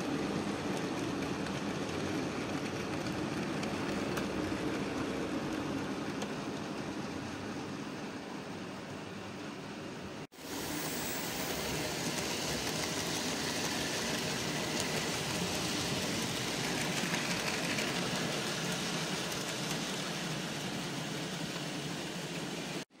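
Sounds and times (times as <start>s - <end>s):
model train wheels rolling: 0.0s - 8.8s, 10.4s - 22.8s.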